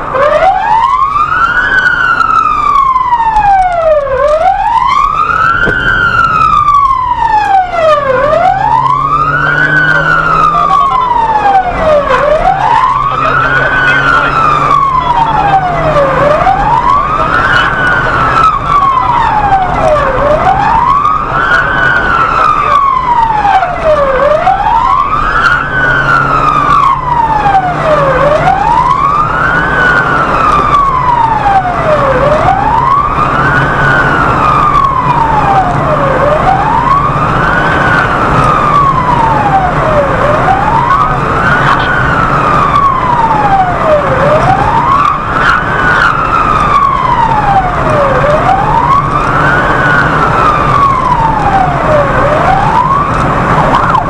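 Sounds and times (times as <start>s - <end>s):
low vehicle hum: 0.0s - 54.0s
siren wailing: 0.0s - 54.0s.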